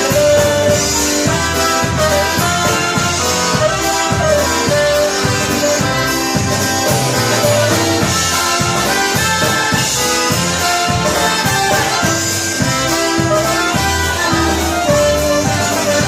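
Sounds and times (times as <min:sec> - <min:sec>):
brass playing over a beat: 0:00.0 - 0:16.0.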